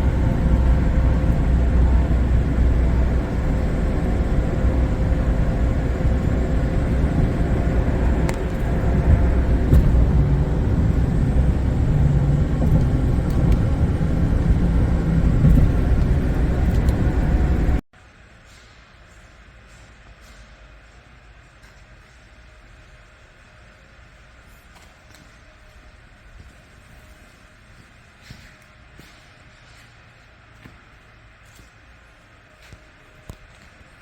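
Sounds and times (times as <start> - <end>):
machine running with low rumble: 0.0 - 34.0.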